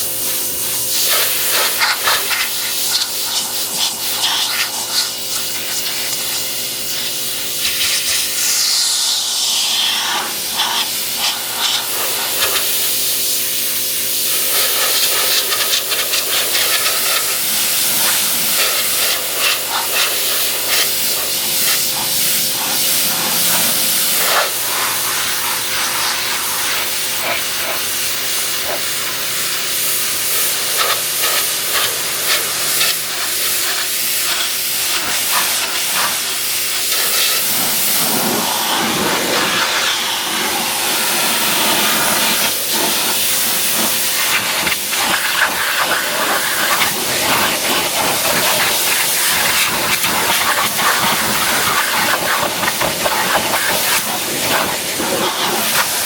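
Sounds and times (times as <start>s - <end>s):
pressure washer spray hissing: 0.0s - 56.0s
pump humming: 0.0s - 56.0s.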